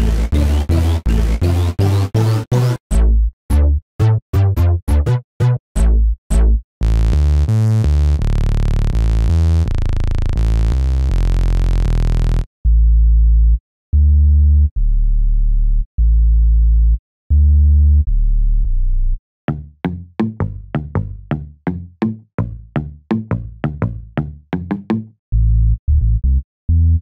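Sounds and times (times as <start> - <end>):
synthesizer bass notes: 0.0 - 27.0.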